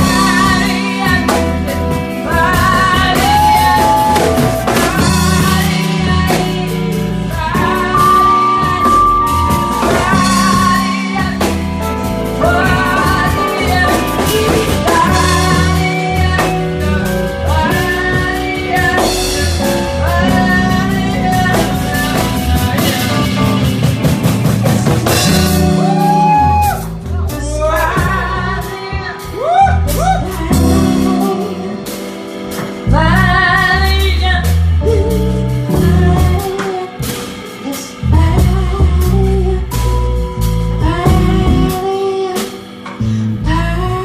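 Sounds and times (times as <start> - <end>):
blues rock band playing: 0.0 - 44.0
person singing: 0.0 - 44.0.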